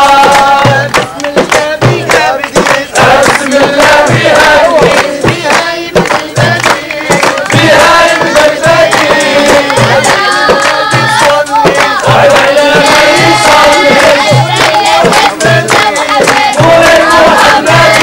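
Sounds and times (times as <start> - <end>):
group chanting: 0.0 - 18.0
low drum beat: 0.0 - 18.0
sharp percussive strikes: 0.0 - 18.0.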